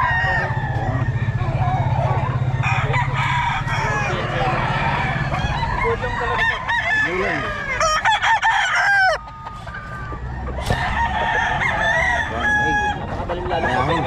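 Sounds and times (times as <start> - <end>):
roosters crowing: 0.0 - 14.0.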